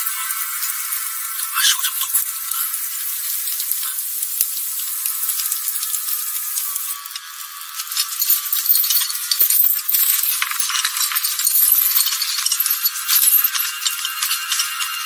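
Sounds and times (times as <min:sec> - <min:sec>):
thin crackling dialogue and score: 0:00.0 - 0:15.0.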